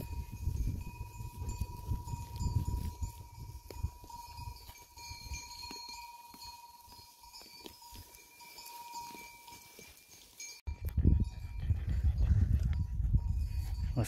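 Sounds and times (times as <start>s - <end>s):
goat bells ringing: 0.0s - 14.0s.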